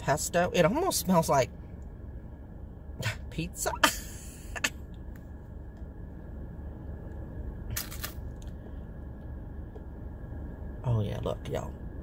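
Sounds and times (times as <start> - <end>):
car air conditioning hum: 0.0 - 12.0.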